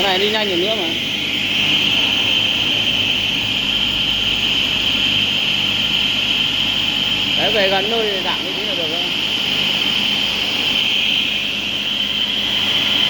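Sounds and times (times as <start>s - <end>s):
stone-working machine whine: 0.0s - 13.0s.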